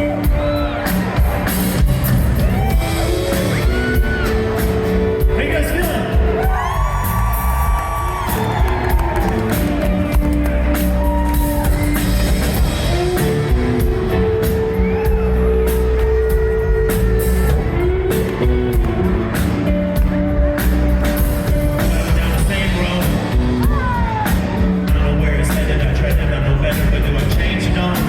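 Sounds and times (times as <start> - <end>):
live rock band playing: 0.0 - 28.0
steady drum beat: 0.0 - 28.0.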